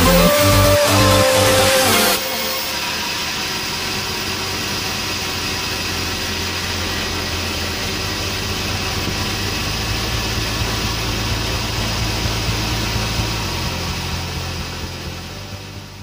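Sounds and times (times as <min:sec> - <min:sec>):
sawmill motor drone: 0:00.0 - 0:16.0.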